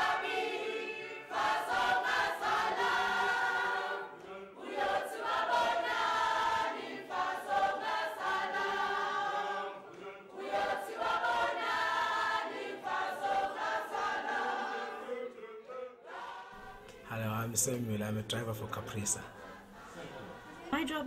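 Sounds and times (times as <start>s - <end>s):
group singing in chorus: 0.0s - 17.5s, 18.6s - 21.0s.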